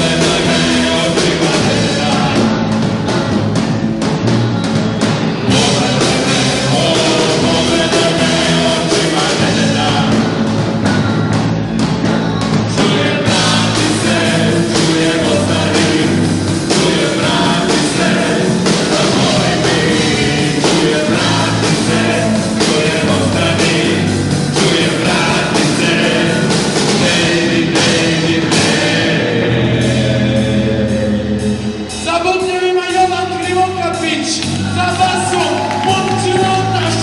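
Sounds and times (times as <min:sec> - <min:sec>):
bass guitar: 0:00.0 - 0:37.0
drum kit beating: 0:00.0 - 0:37.0
voices singing: 0:00.0 - 0:37.0.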